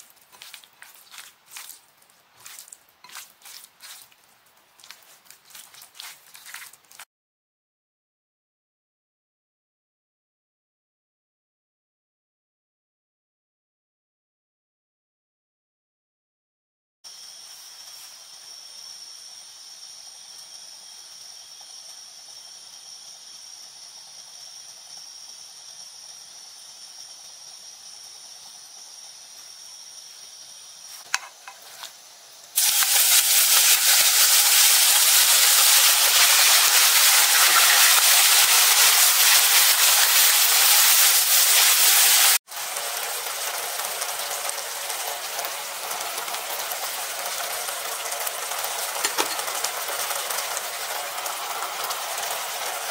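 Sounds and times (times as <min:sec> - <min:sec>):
beef sizzling in hot oil: 0:00.0 - 0:07.1, 0:17.1 - 0:52.9.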